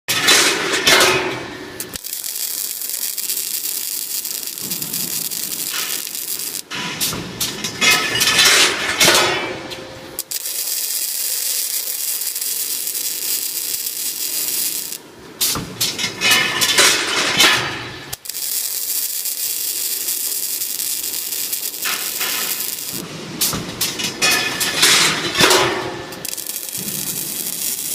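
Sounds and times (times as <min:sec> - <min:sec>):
welding machine mechanical clatter: 0:00.1 - 0:27.9
steady welding hiss: 0:00.2 - 0:09.4, 0:10.0 - 0:27.9.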